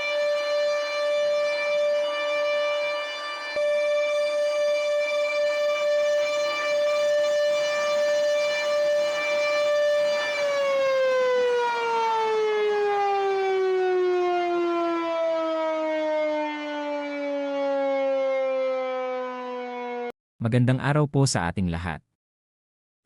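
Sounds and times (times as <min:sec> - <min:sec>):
air raid siren winding down: 0:00.0 - 0:20.1.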